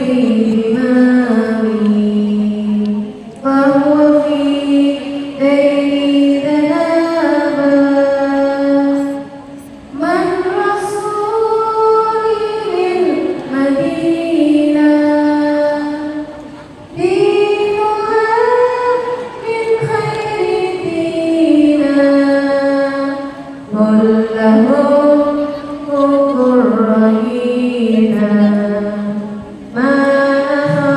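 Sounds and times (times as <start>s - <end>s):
woman singing: 0.0s - 30.9s.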